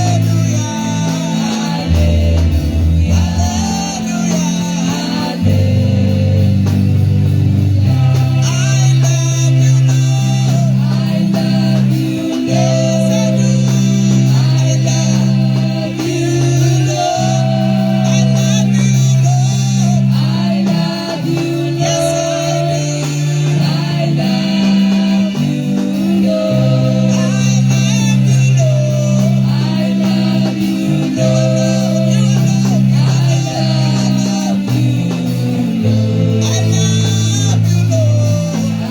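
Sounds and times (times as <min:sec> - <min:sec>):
bass guitar: 0:00.0 - 0:38.9
drums: 0:00.0 - 0:38.9
electric guitar: 0:00.0 - 0:38.9
people singing: 0:00.0 - 0:38.9.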